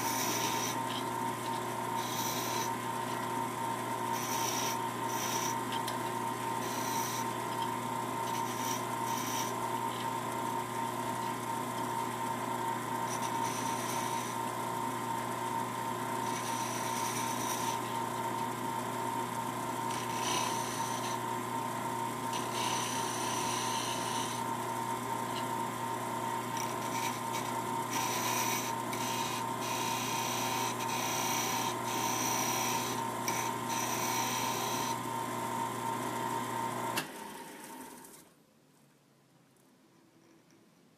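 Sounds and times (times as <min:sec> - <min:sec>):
chisel scraping spinning wood: 0:00.0 - 0:35.9
wood lathe humming: 0:00.0 - 0:37.9.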